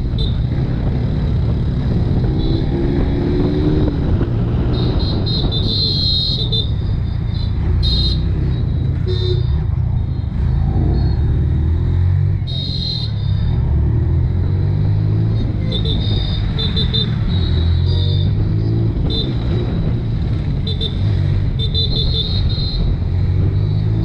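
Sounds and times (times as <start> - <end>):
motorcycle engine drone: 0.0 - 24.0.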